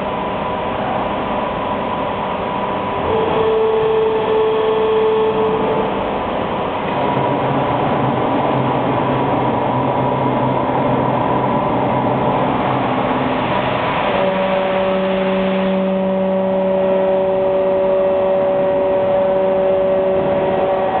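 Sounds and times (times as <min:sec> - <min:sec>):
machine motors humming and whining: 0:00.0 - 0:21.0.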